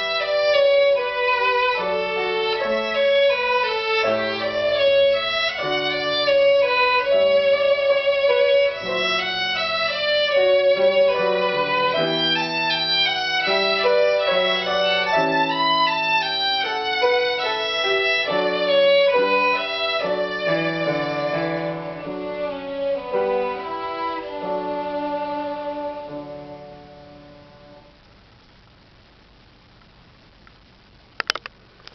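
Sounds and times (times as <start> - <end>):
violin playing slow melody: 0.0 - 27.9.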